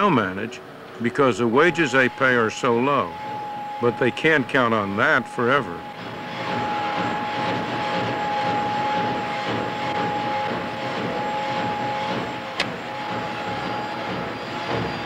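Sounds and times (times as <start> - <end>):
machines whining: 0.0 - 15.0
mechanical hum: 0.0 - 15.0.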